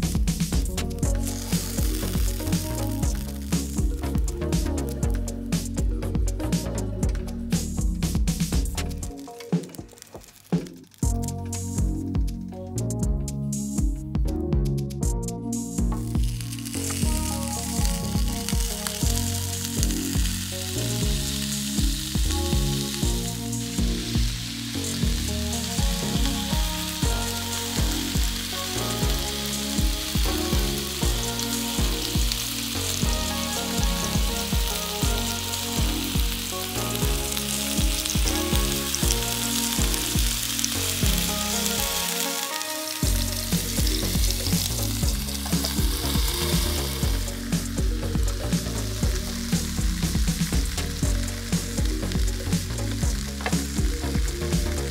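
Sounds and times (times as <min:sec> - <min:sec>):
background music with a beat: 0:00.0 - 0:54.9
vegetables sizzling on a grill: 0:00.1 - 0:11.9, 0:16.0 - 0:54.9.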